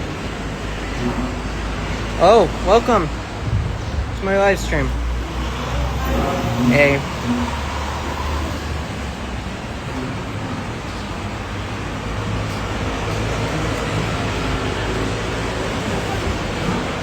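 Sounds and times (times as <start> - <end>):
engine rumble with hiss: 0.0 - 17.0.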